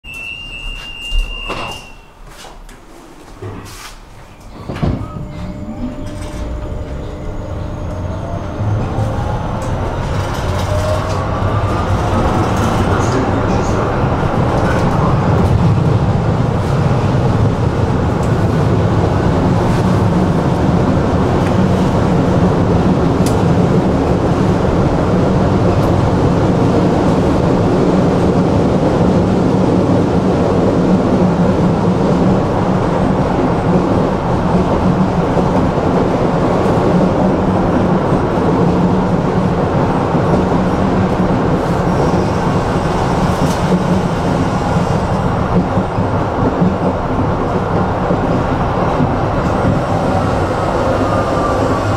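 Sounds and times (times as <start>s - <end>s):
tram wheels rolling on rails: 0.1s - 51.9s.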